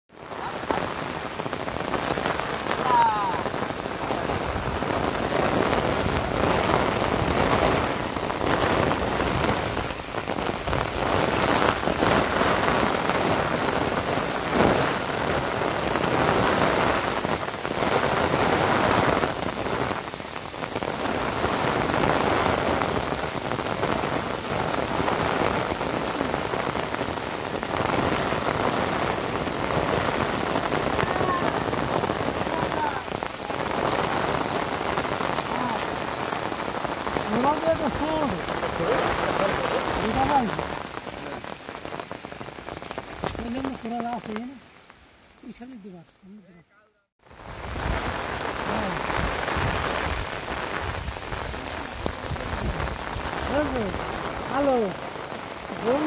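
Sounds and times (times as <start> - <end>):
heavy rain pouring onto water: 0.1 - 46.4, 47.1 - 56.0.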